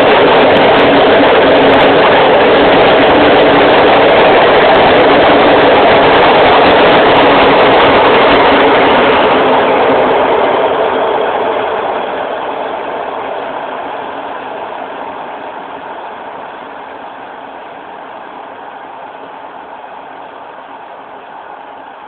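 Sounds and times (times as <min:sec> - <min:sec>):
train wheels rolling on rails: 0:00.0 - 0:22.0.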